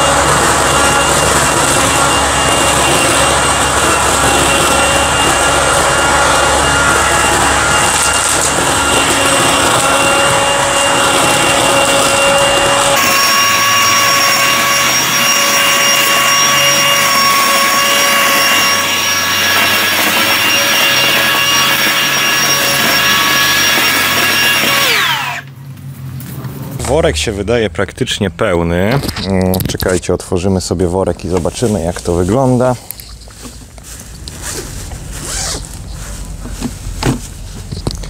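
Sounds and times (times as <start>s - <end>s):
leaf vacuum whining: 0.0s - 27.4s, 31.2s - 38.0s.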